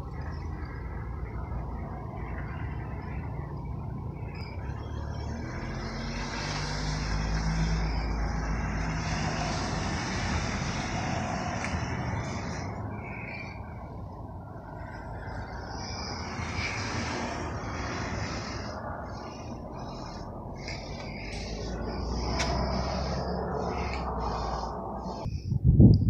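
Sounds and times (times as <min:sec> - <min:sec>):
vehicle passing by: 0:00.0 - 0:25.5.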